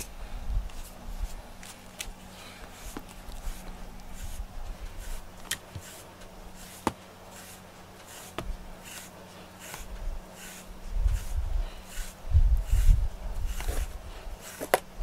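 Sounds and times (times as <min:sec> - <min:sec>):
brush swishing through fur: 0:00.0 - 0:14.8.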